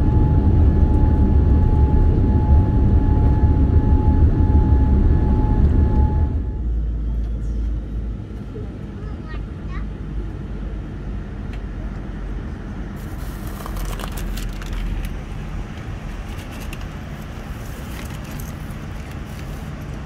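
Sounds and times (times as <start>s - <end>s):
aircraft engine and airflow rumble: 0.0s - 20.0s.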